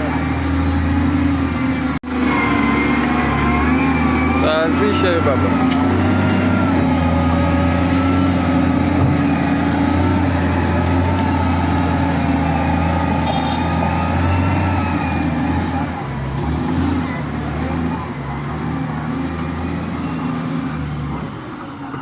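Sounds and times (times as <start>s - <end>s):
bulldozer diesel engine drone: 0.0s - 22.0s.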